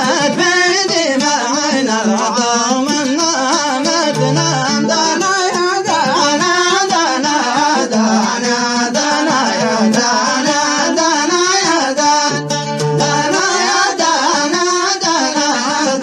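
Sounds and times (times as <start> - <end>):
instrumental accompaniment: 0.0 - 16.0
person singing: 0.0 - 16.0.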